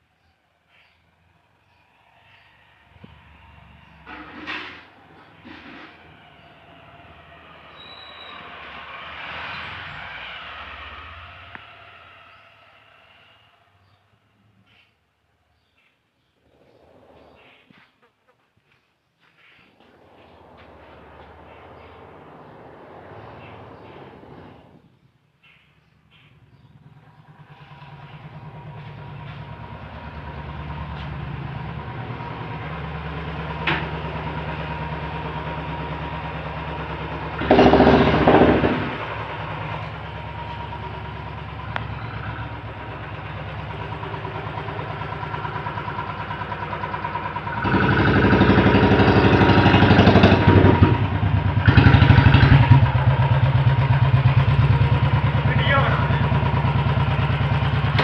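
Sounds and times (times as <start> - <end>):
engine running close by: 0.0 - 14.8, 19.3 - 58.0.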